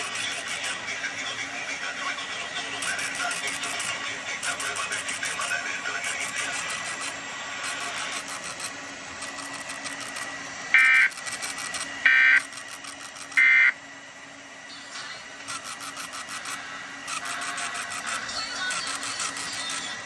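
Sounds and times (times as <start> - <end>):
digital data tone bursts: 0.0 - 0.8, 2.8 - 13.8, 15.5 - 20.0.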